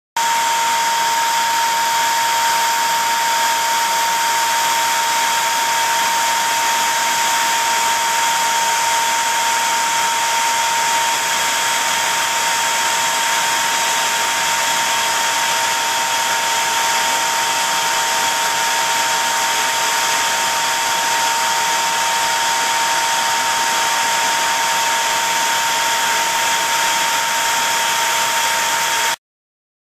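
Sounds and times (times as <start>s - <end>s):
rotary atomizer hissing and whining: 0.2s - 29.1s.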